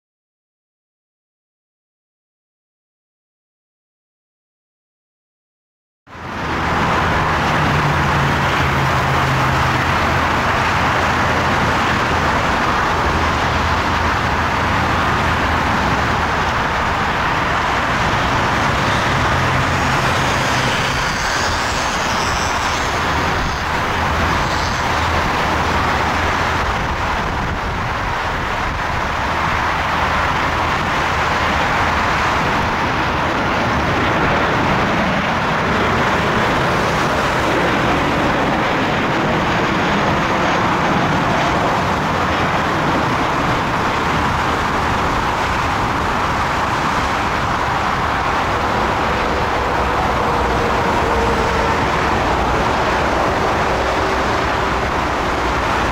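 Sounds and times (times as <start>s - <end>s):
road traffic noise: 6.1s - 55.9s
airliner jet roar: 6.3s - 55.9s.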